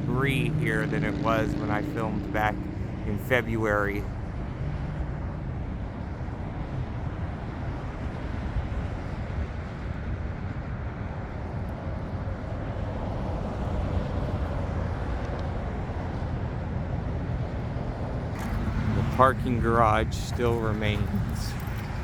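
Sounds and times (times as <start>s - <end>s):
low rumble of vehicle noise: 0.0s - 22.0s.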